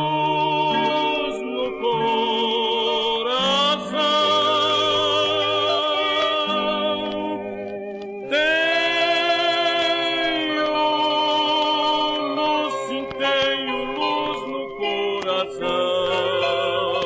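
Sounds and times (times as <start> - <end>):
hymn with held vibrato notes: 0.0 - 17.0.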